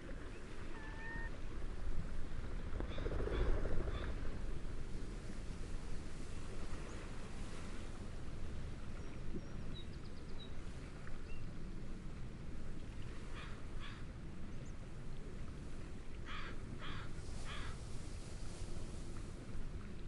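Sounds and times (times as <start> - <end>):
gentle waves: 0.0 - 20.0
low rush of wind: 0.0 - 20.0.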